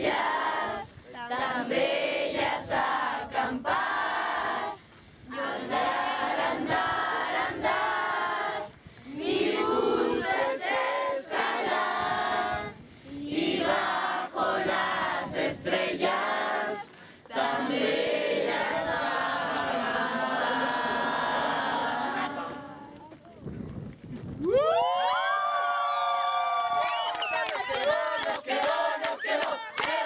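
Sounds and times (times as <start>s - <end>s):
young voices singing in unison: 0.0s - 23.1s, 27.8s - 30.0s.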